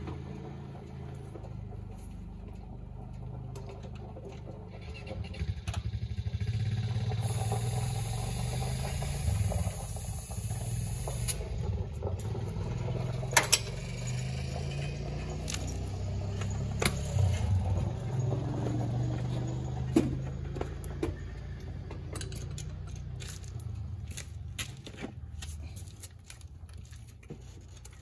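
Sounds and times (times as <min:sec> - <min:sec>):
tractor diesel engine starting and idling: 0:00.0 - 0:28.0.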